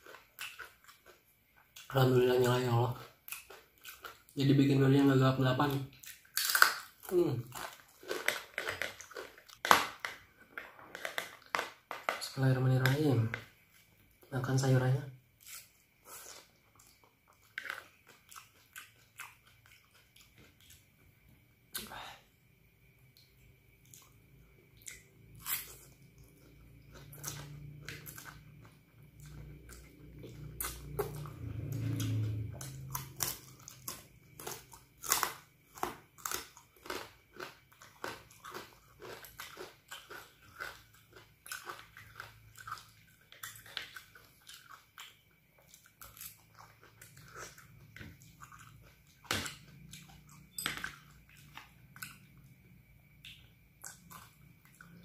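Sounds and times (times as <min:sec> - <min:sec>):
chewing with sharp crunches: 0:00.0 - 0:10.3, 0:15.4 - 0:21.9, 0:23.1 - 0:55.0.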